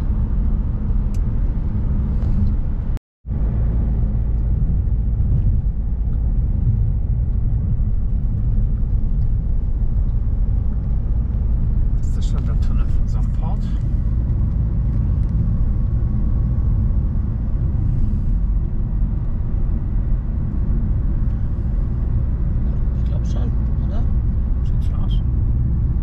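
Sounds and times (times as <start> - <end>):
car driving low rumble: 0.0 - 26.0.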